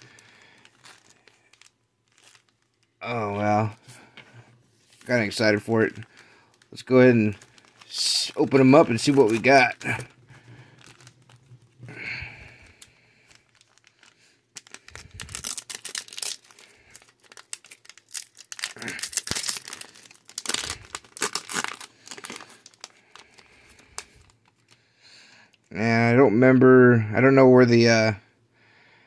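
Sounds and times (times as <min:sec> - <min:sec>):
wrappers ripping and crinkling: 0:00.0 - 0:04.1, 0:04.8 - 0:24.8.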